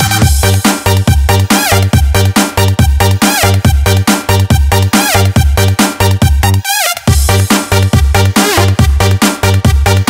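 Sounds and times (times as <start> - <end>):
heavy kick drum: 0.0 - 6.5, 7.1 - 10.0
electronic dance music: 0.0 - 10.0.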